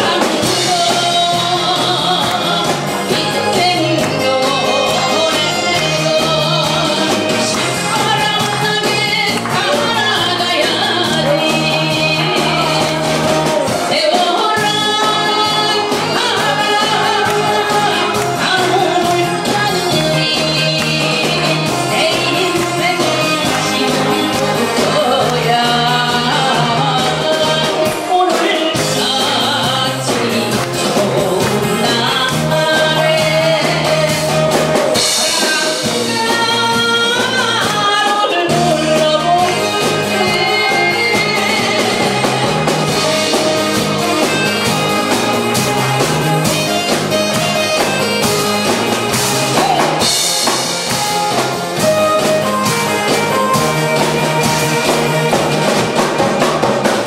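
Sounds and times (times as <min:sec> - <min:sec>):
woman singing through a microphone: 0:00.0 - 0:56.0
amplified backing band: 0:00.0 - 0:57.0.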